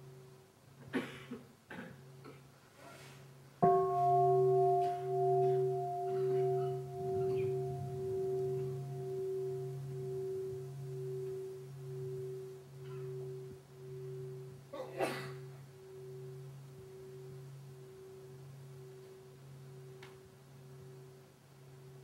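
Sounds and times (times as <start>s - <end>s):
meditation bell ringing: 3.6s - 22.0s.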